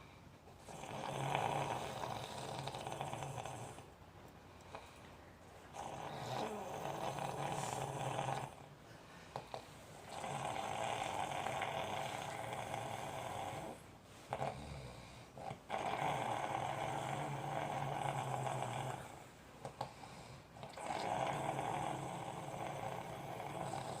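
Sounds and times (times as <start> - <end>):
snoring: 0.6 - 3.9, 5.7 - 8.7, 9.4 - 24.0.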